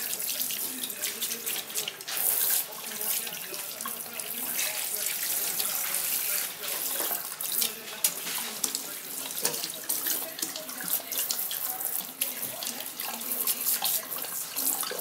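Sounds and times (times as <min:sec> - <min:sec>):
sink sprayer water running: 0:00.0 - 0:15.0
water splashing: 0:00.0 - 0:15.0.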